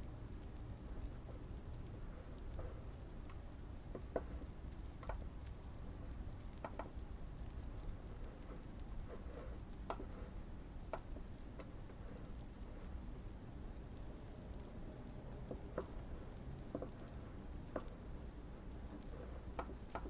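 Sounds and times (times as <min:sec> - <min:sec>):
fireplace crackling: 0:00.0 - 0:20.0.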